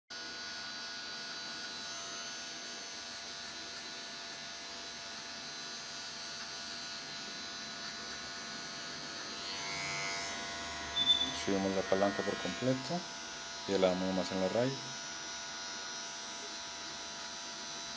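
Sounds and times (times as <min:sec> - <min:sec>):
hair clipper buzzing: 0:00.2 - 0:17.9.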